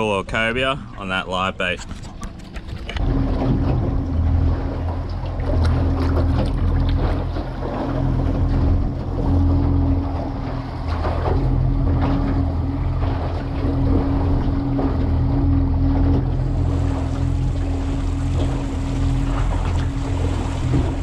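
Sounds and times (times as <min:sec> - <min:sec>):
outboard motor humming: 0:00.0 - 0:21.0.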